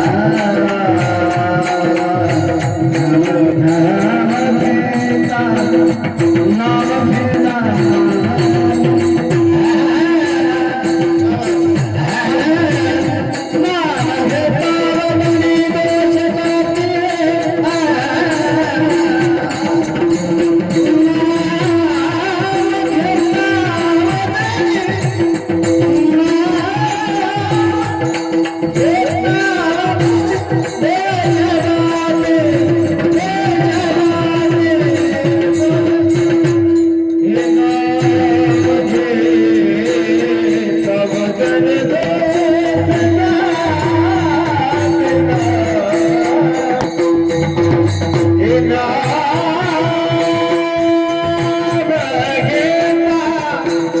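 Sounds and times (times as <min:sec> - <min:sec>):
man singing devotional melody: 0:00.0 - 0:54.0
rhythmic percussion: 0:00.0 - 0:54.0.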